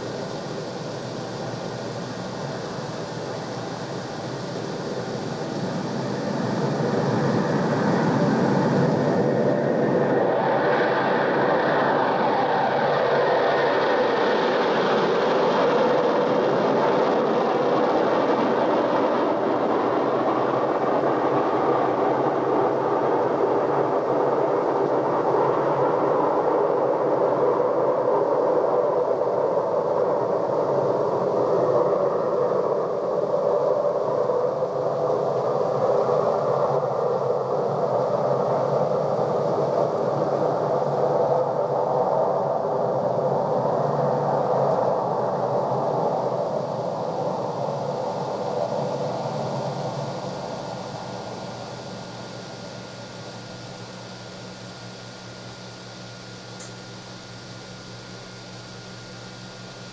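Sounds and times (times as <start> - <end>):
tape hiss: 0.0 - 59.9.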